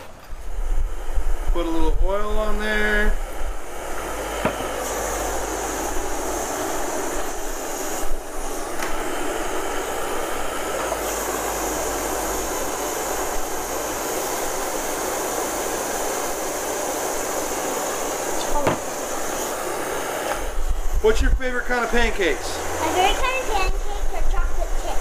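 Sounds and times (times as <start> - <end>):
gas stove burner hissing: 0.0 - 25.0.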